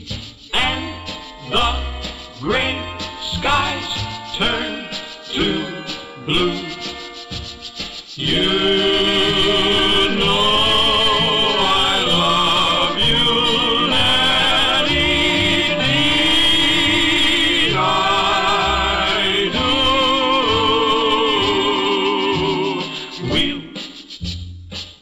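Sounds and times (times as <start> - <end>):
vocal group singing: 0.5 - 24.1.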